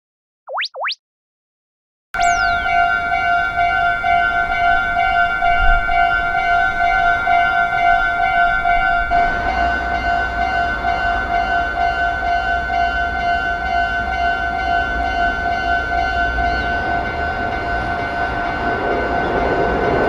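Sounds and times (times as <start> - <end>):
level crossing warning bell: 2.2 - 20.0
train rumble: 3.8 - 20.0.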